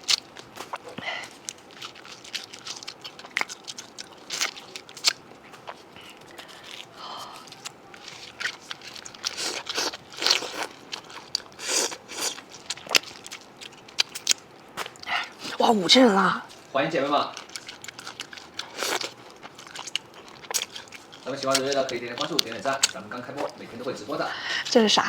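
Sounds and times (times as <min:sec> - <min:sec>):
food being bitten and chewed: 0:00.0 - 0:24.9.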